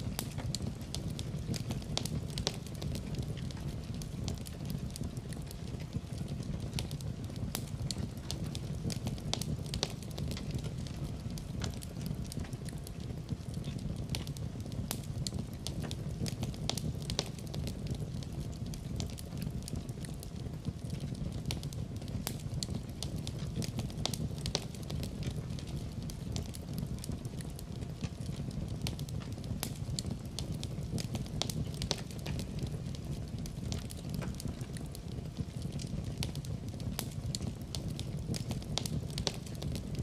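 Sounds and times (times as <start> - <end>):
low rumble of flames: 0.0 - 40.0
wood fire crackling and snapping: 0.0 - 40.0.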